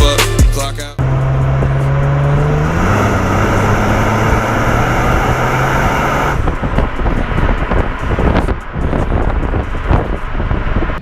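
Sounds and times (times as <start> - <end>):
vehicle engine hum: 0.0 - 11.0
road noise: 0.8 - 11.0.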